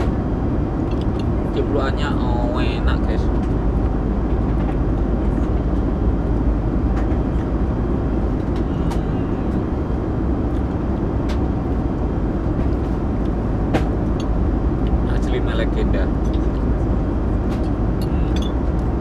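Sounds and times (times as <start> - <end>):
airliner cabin roar: 0.0 - 19.0.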